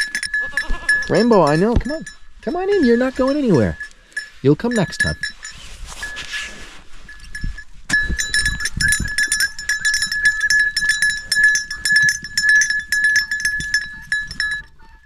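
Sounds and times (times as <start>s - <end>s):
goat bell jangling: 0.0s - 6.4s, 7.0s - 15.0s.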